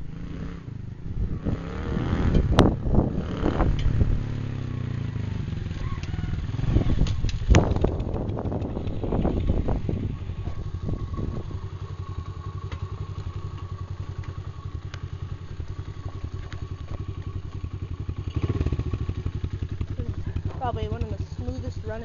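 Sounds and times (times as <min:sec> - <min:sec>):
dirt bike engine puttering: 0:01.4 - 0:22.0.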